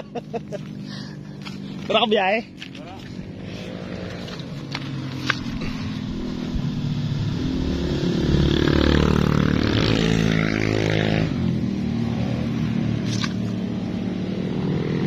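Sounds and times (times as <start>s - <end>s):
motorcycle passing by: 0.0s - 15.0s.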